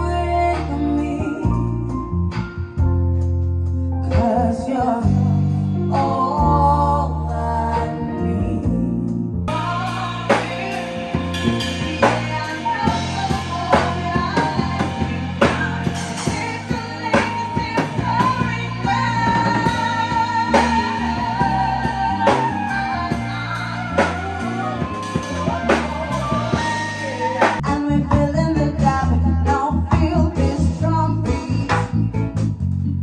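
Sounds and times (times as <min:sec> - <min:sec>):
woman singing: 0:00.0 - 0:02.0, 0:04.0 - 0:32.0
live band playing: 0:00.0 - 0:33.0.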